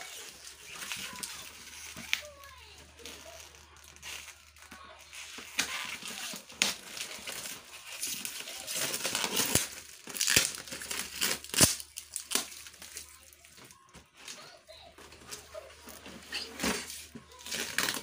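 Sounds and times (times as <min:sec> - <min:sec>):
packing tape tearing: 0:00.0 - 0:13.6, 0:15.3 - 0:18.0
plastic wrapping crinkling: 0:00.0 - 0:18.0.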